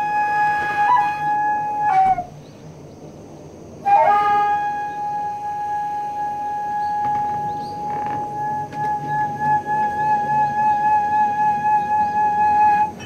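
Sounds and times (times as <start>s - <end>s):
bamboo flute held note: 0.0s - 2.3s, 3.9s - 13.0s.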